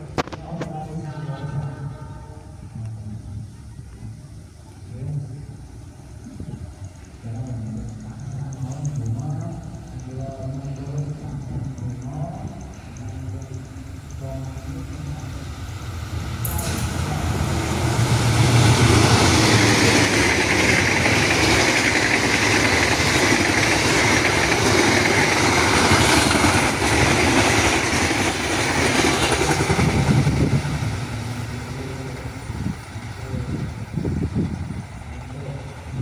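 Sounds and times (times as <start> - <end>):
train passing at speed: 0.0 - 36.0.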